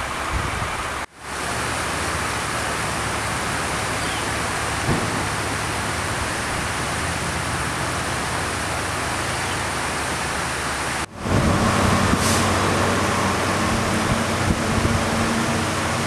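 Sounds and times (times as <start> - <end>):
river rushing: 0.0 - 16.0
vehicle engine hum: 0.0 - 16.0.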